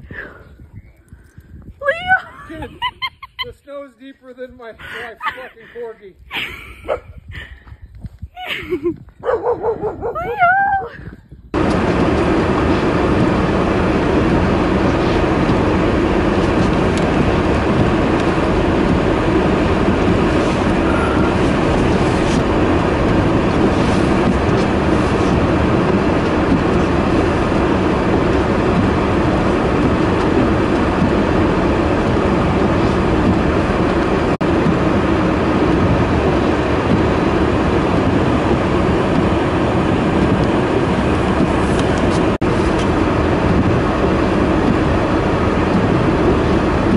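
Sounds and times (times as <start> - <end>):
wind roaring on microphone: 0.0 - 46.9.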